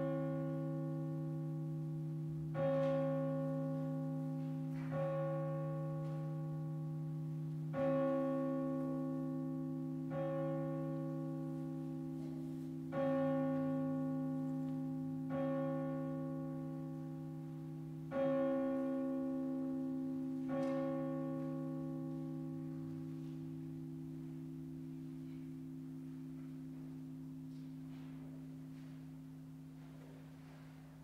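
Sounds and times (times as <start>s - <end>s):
church bell tolling: 0.0s - 31.0s.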